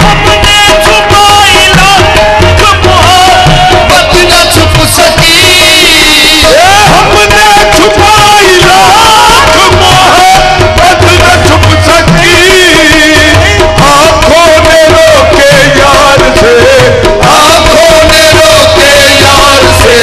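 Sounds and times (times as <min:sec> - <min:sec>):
hand percussion beat: 0:00.0 - 0:20.0
harmonium: 0:00.0 - 0:20.0
man singing: 0:00.0 - 0:20.0.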